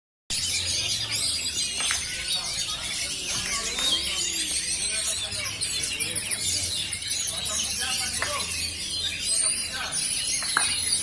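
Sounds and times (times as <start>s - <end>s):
chorus of songbirds: 0.3s - 11.0s.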